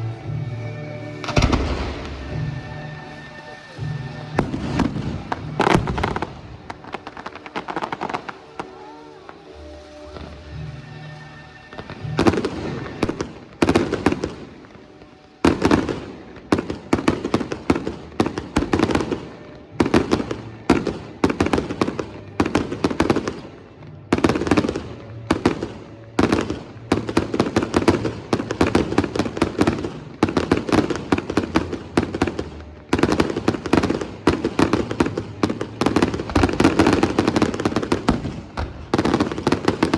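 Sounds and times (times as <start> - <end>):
fireworks bursting and crackling: 0.0 - 39.9
music: 0.0 - 39.9.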